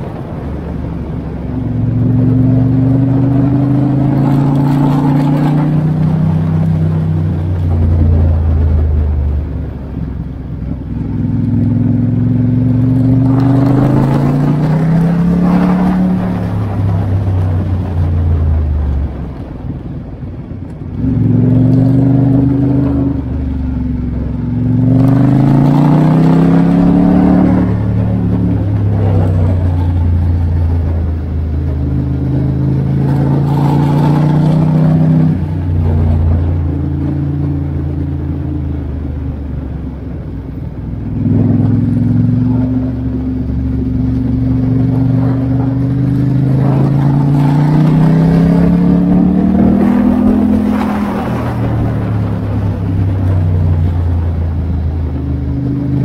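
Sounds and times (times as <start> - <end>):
motorcycle engine accelerating: 0.0 - 19.9, 20.6 - 56.0.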